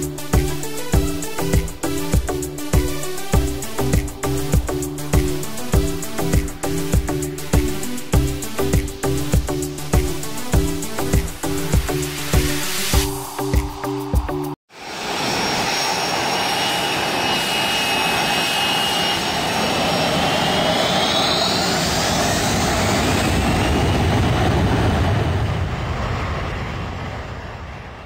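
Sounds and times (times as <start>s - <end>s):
high whines shifting pitch: 0.0s - 23.6s
jet-like rushing noise: 0.0s - 24.6s.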